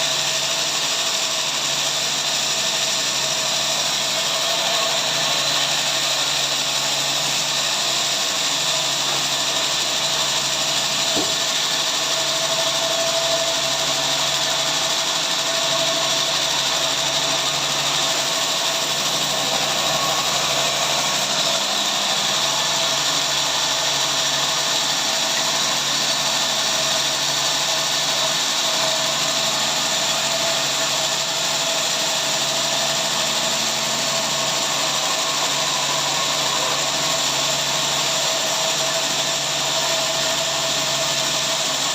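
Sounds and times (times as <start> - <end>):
power saw cutting log: 0.0 - 41.9.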